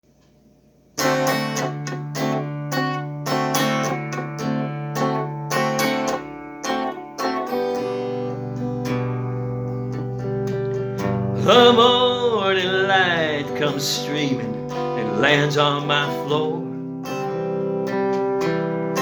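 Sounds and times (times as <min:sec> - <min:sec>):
acoustic guitar chords: 0:01.0 - 0:19.0.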